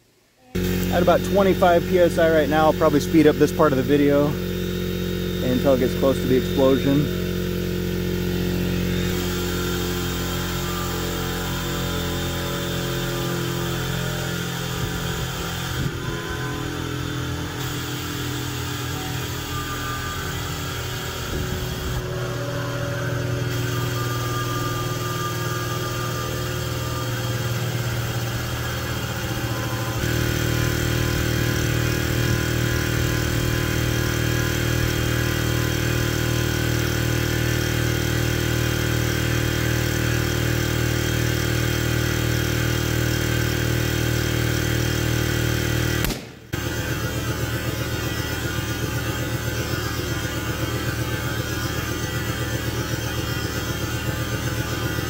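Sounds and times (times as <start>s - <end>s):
air compressor running: 0.4s - 55.0s.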